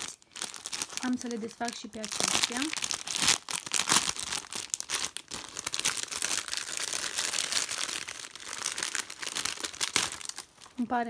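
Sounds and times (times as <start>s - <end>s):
packing paper rustling: 0.0s - 10.9s
plastic bag crinkling: 0.0s - 11.0s.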